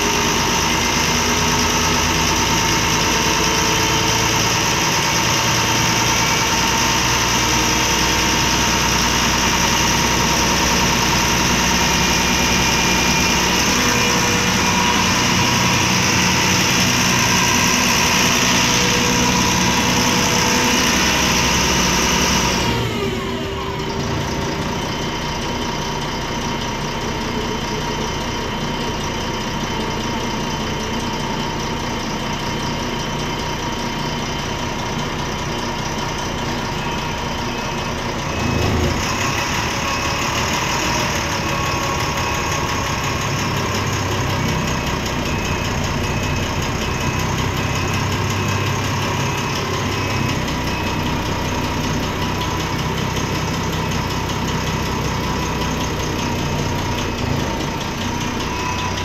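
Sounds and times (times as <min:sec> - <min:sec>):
diesel bus engine idling: 0:00.0 - 0:59.0.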